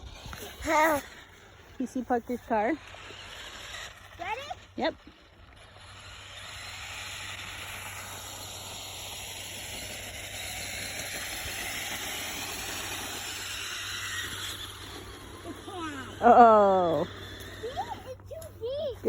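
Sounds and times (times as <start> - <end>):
toy electric motor whine: 0.0 - 19.0
wheels churning snow: 0.0 - 19.0.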